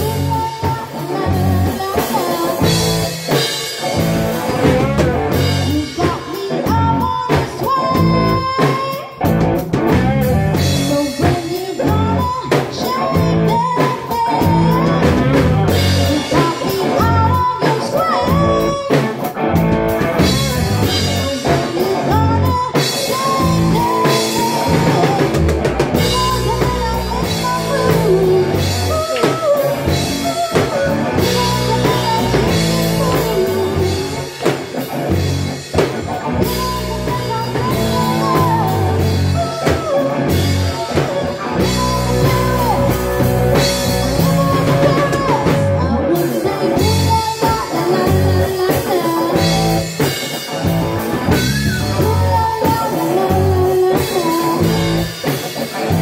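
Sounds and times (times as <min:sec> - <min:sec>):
woman singing: 0:00.0 - 0:09.3, 0:09.9 - 0:19.4, 0:20.0 - 0:55.5
drum kit beat: 0:00.0 - 0:56.0
electric guitars: 0:00.0 - 0:56.0.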